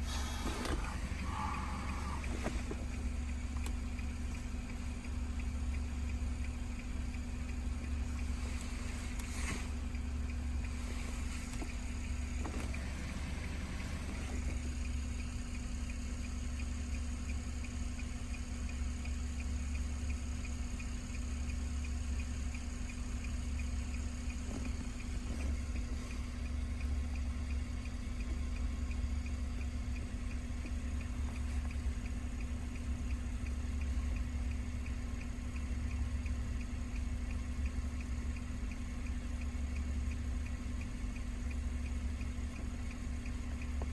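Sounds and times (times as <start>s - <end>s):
faint regular ticking: 0.0s - 43.9s
vehicle engine idling: 0.0s - 43.9s.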